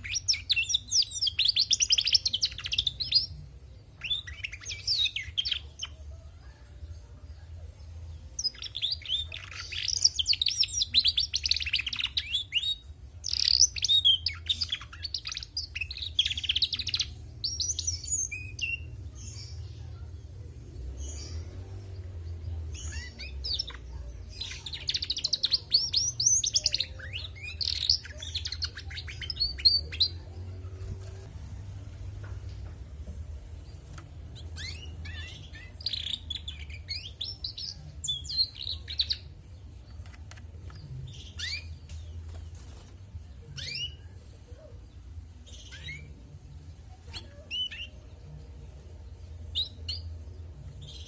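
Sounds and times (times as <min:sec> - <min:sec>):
canary twittering: 0:00.0 - 0:06.0, 0:08.2 - 0:20.2, 0:20.9 - 0:31.8, 0:33.3 - 0:44.2, 0:45.4 - 0:48.2.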